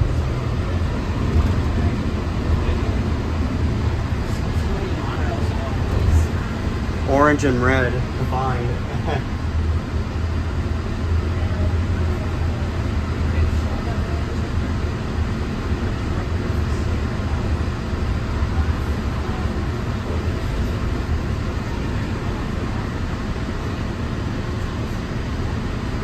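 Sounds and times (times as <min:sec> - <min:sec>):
monorail train low rumble: 0:00.0 - 0:26.0.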